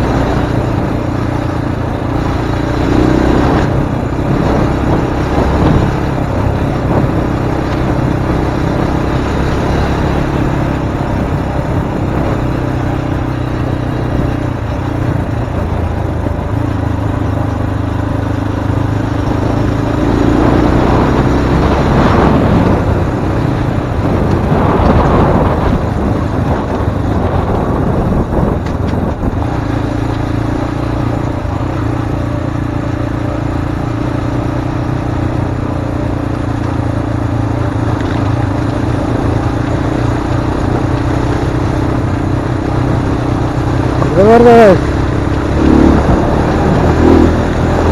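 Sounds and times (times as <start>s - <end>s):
rushes of noise: 0.0s - 33.9s, 42.9s - 47.9s
motorcycle engine running: 0.0s - 47.9s.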